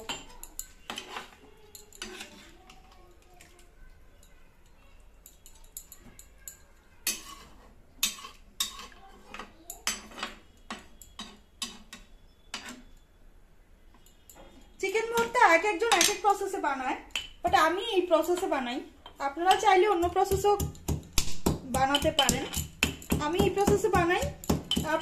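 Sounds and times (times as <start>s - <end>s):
kitchen utensils clinking: 0.0s - 3.6s, 4.2s - 13.1s, 14.0s - 25.0s.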